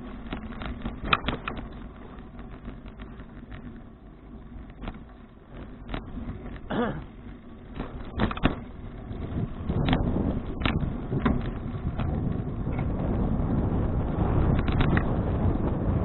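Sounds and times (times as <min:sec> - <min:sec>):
bicycle clicks and rattles: 0:00.0 - 0:16.0
bicycle riding rumble: 0:00.0 - 0:16.0.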